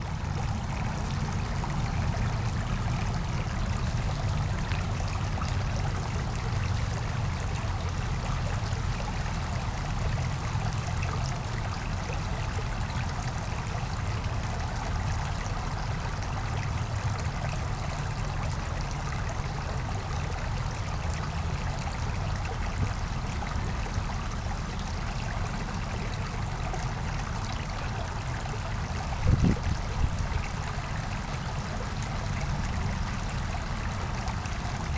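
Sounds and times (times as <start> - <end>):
brook babbling: 0.0 - 34.9.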